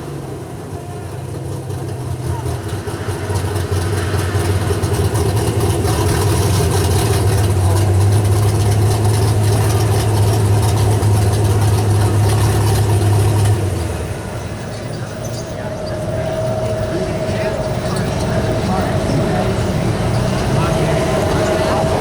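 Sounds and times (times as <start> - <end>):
truck engine revving hard: 0.0 - 22.0.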